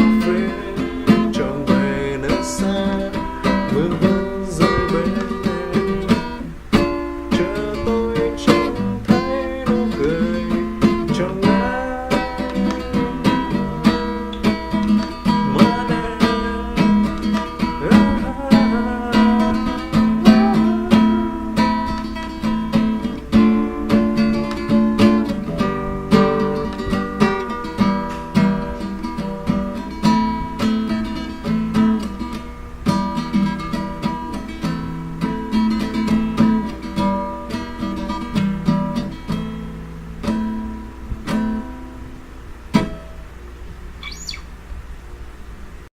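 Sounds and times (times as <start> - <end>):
acoustic guitar playing: 0.0 - 45.9.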